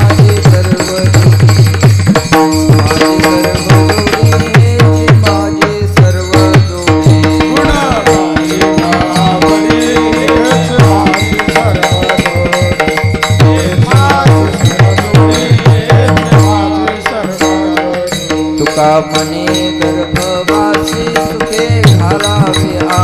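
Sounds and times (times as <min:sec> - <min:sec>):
wordless melodic singing: 0:00.0 - 0:23.0.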